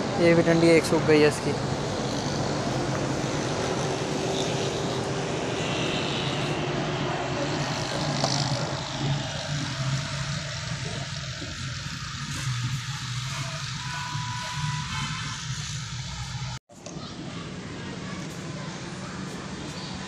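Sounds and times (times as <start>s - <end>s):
distant vehicle rumble: 0.0s - 16.6s.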